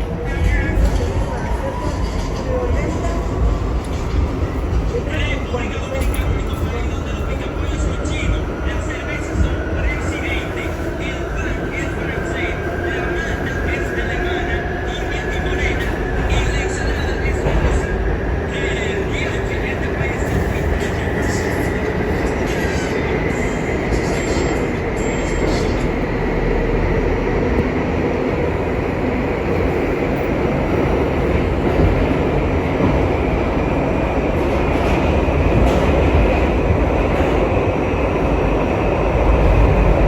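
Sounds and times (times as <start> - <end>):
subway train on rails: 0.0 - 40.0.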